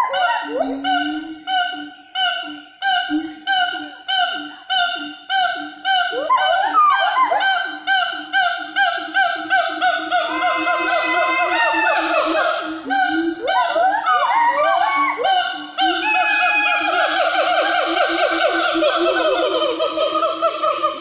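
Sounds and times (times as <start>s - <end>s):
gibbons hooting: 0.0s - 21.0s
gibbons whooping: 0.0s - 21.0s.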